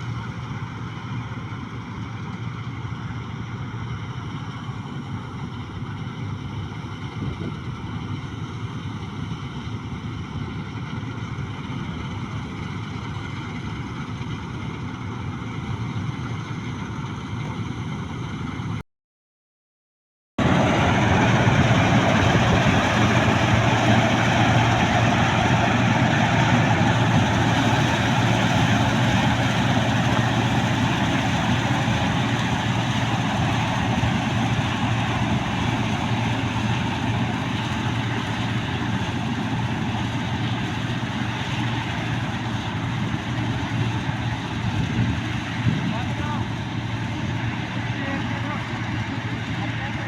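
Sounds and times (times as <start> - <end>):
combine harvester engine running: 0.0 - 18.8, 20.4 - 50.0.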